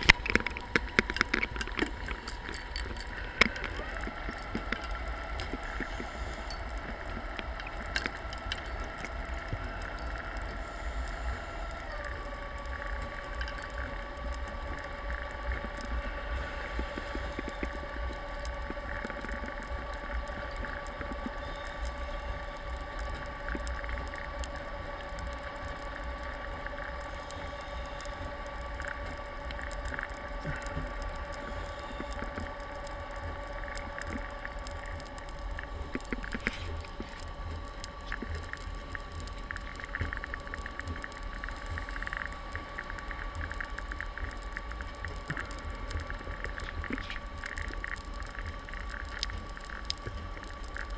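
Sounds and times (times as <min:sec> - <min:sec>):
boat motor whine underwater: 0:00.0 - 0:50.9
light crackle: 0:00.0 - 0:50.9.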